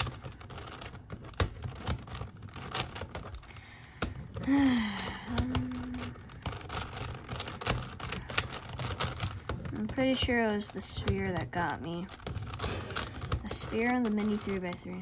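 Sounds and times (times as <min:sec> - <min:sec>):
plastic puzzle clicking: 0:00.0 - 0:15.0.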